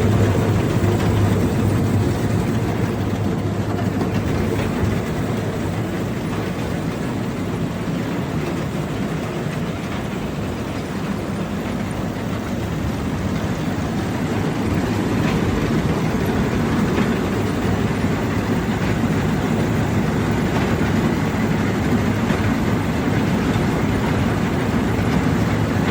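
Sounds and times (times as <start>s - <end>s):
machine rumble and rattle: 0.0s - 25.9s.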